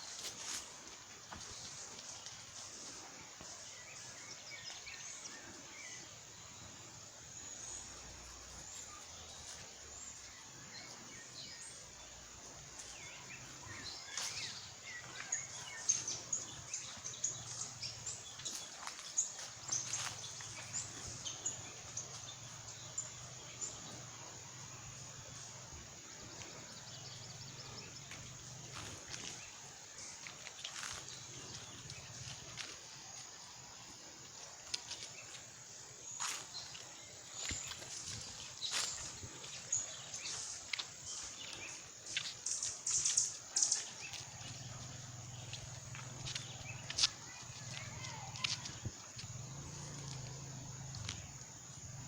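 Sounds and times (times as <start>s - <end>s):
birds chirping: 1.2s - 52.0s.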